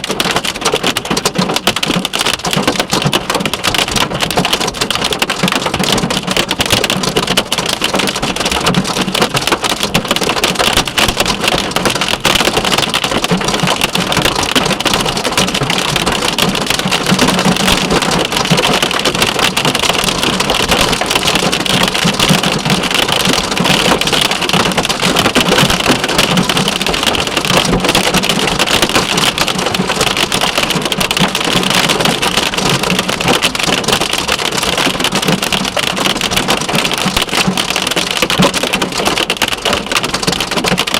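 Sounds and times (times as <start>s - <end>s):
hail and rain beating on a car: 0.0s - 40.9s.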